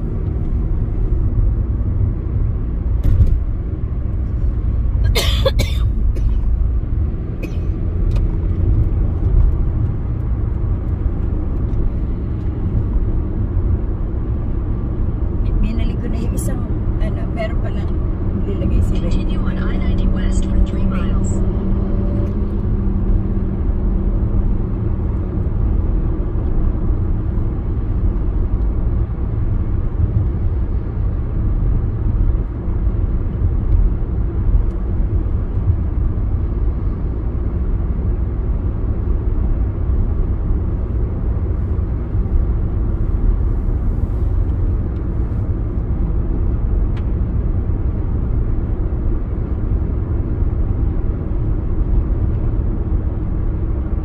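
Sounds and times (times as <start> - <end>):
car cruising at highway speed: 0.0 - 54.0.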